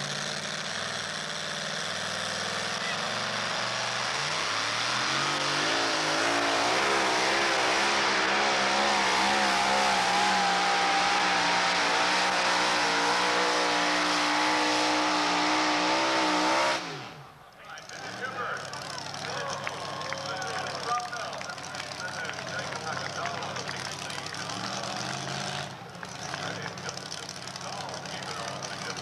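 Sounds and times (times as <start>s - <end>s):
truck engine at full throttle: 0.0s - 29.0s.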